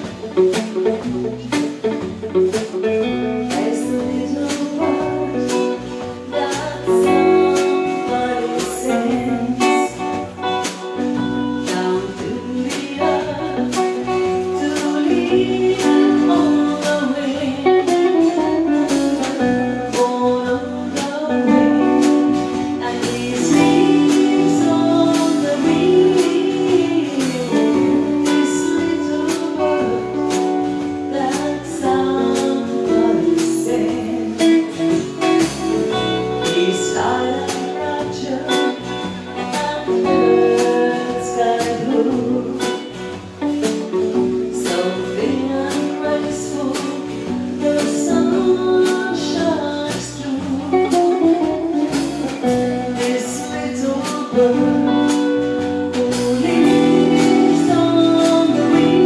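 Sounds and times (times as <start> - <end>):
electric guitar tune: 0.0 - 59.0
steady drum beat: 0.0 - 59.0
walking bass: 0.0 - 59.0.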